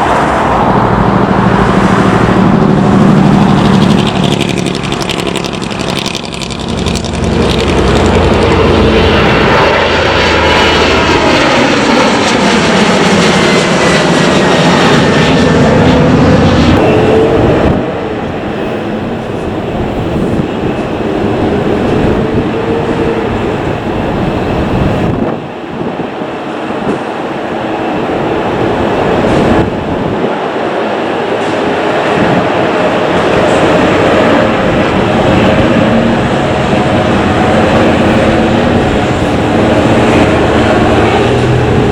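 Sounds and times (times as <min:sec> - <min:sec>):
jet engines roaring: 0:00.0 - 0:41.9.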